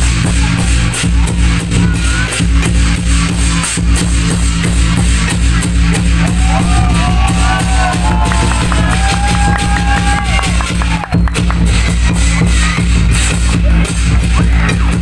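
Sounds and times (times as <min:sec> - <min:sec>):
fast drum beat: 0:00.0 - 0:15.0.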